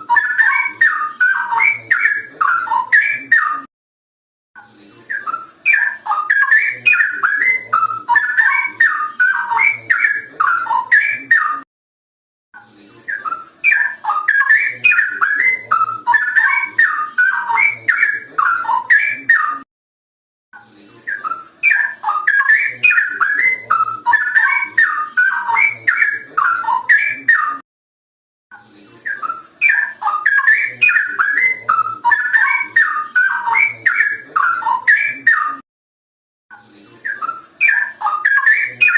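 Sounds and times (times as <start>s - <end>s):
bird singing whistled notes: 0.1s - 3.7s, 5.1s - 11.6s, 13.1s - 19.6s, 21.1s - 27.6s, 29.1s - 35.6s, 37.1s - 38.9s.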